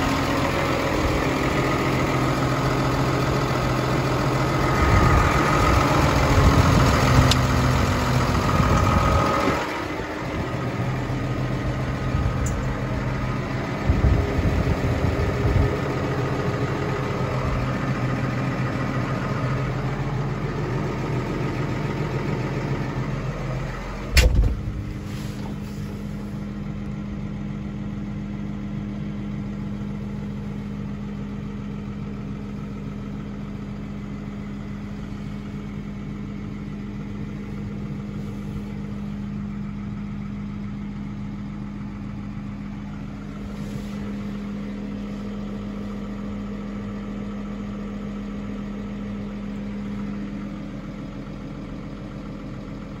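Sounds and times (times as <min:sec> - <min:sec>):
tractor diesel engine idling: 0:00.0 - 0:53.0.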